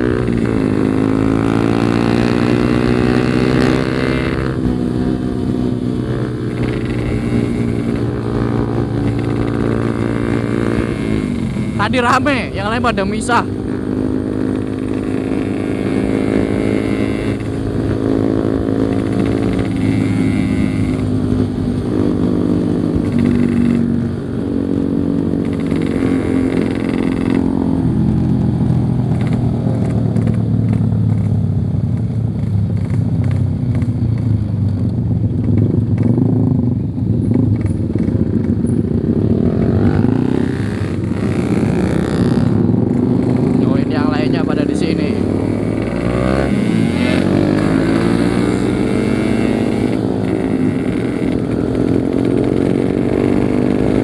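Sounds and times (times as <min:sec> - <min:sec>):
two-stroke motorcycle engine: 0:00.0 - 0:54.0.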